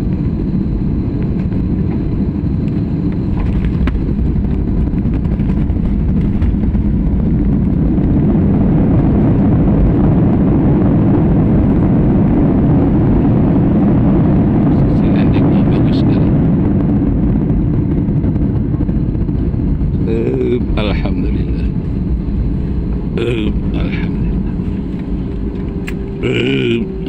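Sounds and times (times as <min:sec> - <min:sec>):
jet engine roar and runway rumble: 0:00.0 - 0:27.0.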